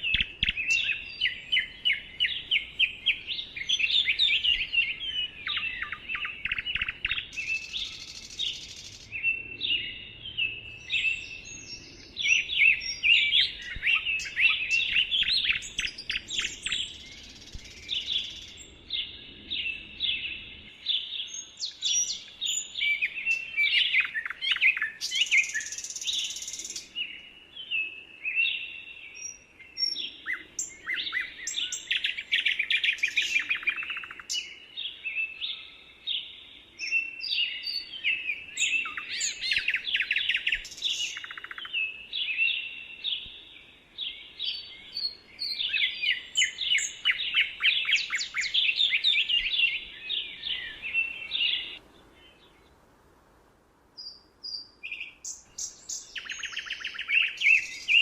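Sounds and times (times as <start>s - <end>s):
songbirds chirping and singing: 0.0s - 52.8s, 54.0s - 58.0s.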